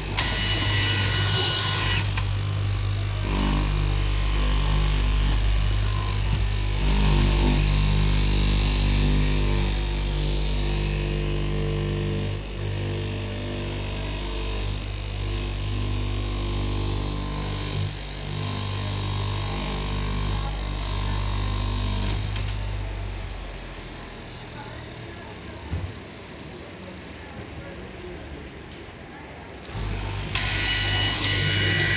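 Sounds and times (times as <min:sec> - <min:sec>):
cloth cutting machine humming: 0:00.0 - 0:27.6, 0:29.5 - 0:31.9.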